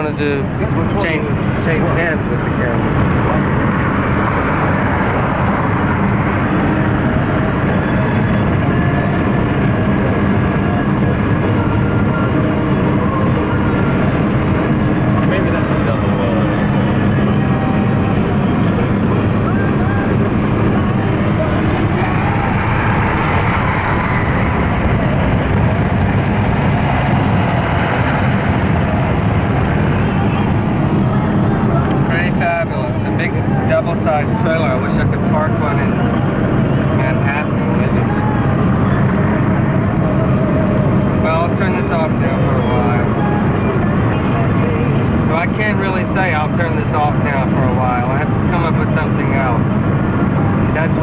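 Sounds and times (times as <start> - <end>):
car road and engine noise: 0.0 - 51.0.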